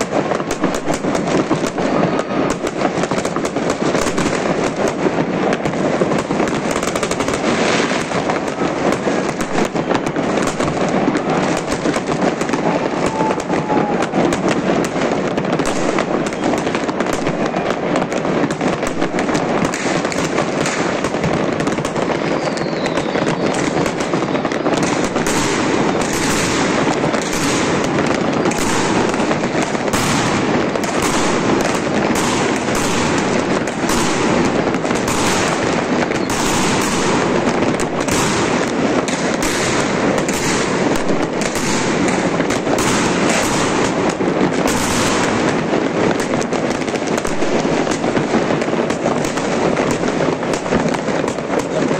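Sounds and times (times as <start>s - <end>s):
dense firecracker crackle: 0.0s - 51.9s
sharp fireworks bangs: 0.0s - 51.9s.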